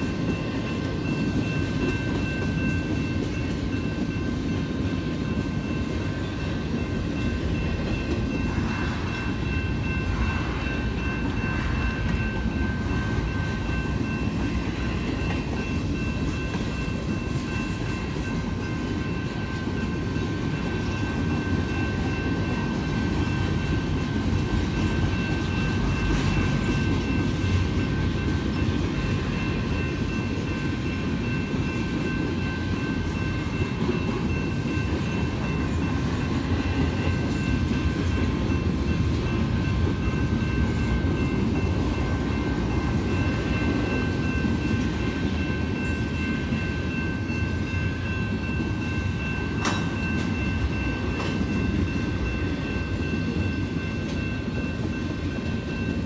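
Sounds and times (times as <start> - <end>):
freight train rolling past: 0.0 - 56.0
steady high tones ringing: 0.0 - 56.0.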